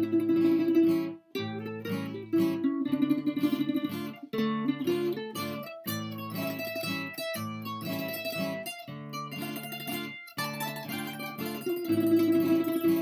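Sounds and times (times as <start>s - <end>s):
plucked string music: 0.0s - 13.0s.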